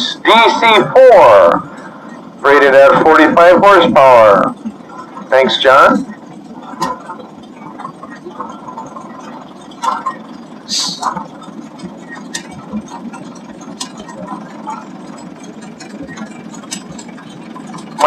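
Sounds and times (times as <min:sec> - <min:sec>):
faint voices: 0:00.0 - 0:18.0
tractor engine running: 0:00.0 - 0:18.0.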